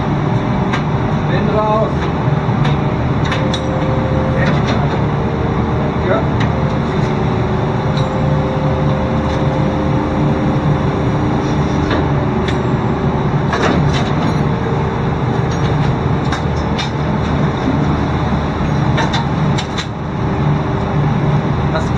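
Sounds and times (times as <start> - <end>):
ship machinery drone: 0.0 - 21.9
steady tones in hum: 0.0 - 21.9.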